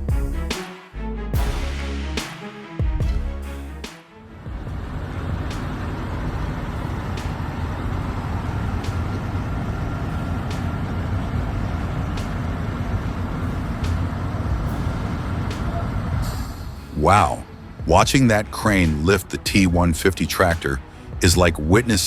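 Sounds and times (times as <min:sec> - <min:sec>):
diesel engine rumbling: 0:03.0 - 0:22.0.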